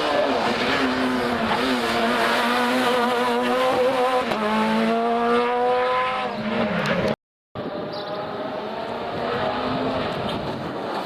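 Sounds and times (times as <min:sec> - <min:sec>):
rally car engine accelerating: 0:00.0 - 0:07.2, 0:07.8 - 0:11.0.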